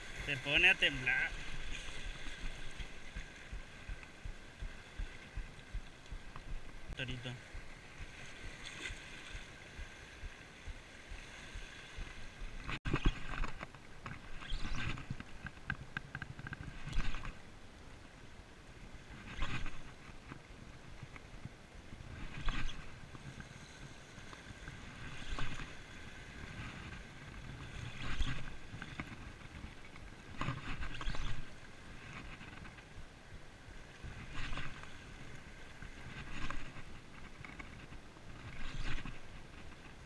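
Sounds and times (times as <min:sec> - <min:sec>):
small waves washing ashore: 0:00.0 - 0:40.0.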